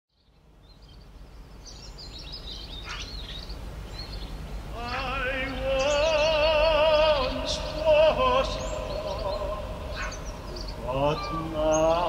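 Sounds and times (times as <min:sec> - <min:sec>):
birds chirping: 0:00.1 - 0:12.0
outdoor background noise: 0:00.1 - 0:12.0.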